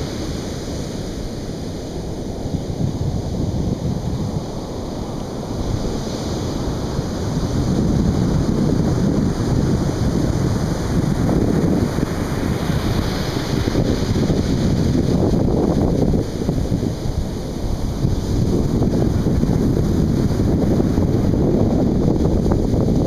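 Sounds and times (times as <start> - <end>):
surf washing on beach: 0.0 - 23.0
wind buffeting microphone: 0.0 - 23.0.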